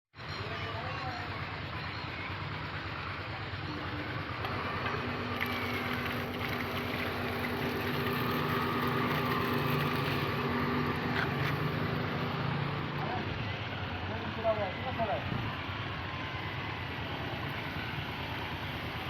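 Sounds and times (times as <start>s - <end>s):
machine humming: 2.1s - 19.0s.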